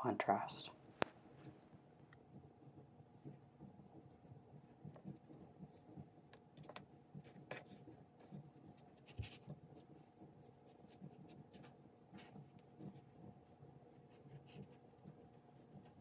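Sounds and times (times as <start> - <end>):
paintbrush scratching and tapping: 1.9 - 16.0.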